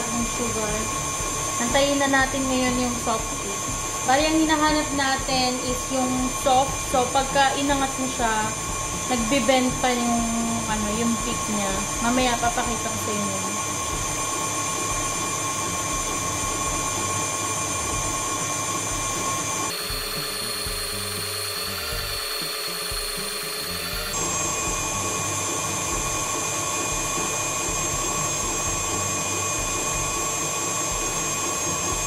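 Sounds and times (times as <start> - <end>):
stand mixer motor whine: 0.0 - 32.0.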